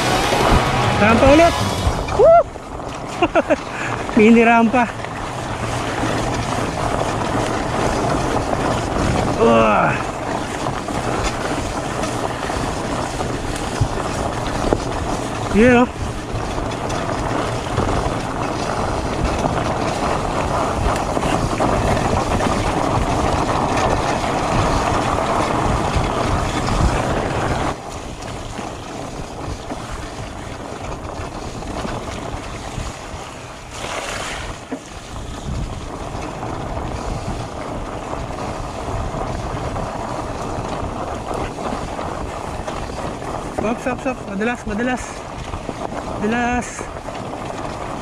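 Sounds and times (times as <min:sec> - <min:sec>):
bike tyres on dirt: 0:00.0 - 0:48.0
wind on microphone: 0:00.0 - 0:48.0.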